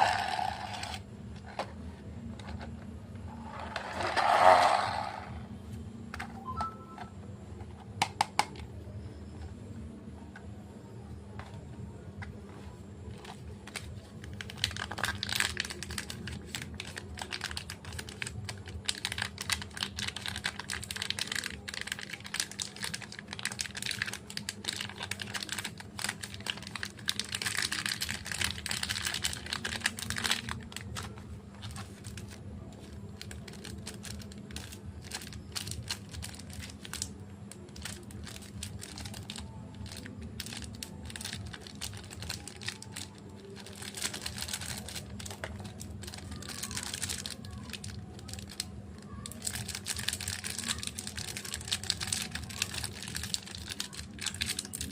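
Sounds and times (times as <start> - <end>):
chocolate wrappers crinkling: 0.0 - 2.6, 12.5 - 54.9
faint steady hum: 0.0 - 54.9.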